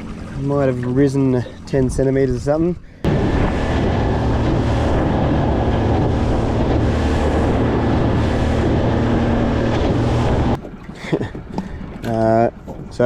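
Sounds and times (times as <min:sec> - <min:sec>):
outboard motor running: 0:00.0 - 0:13.0
water rushing past hull: 0:00.0 - 0:13.0
wind buffeting microphone: 0:00.0 - 0:13.0.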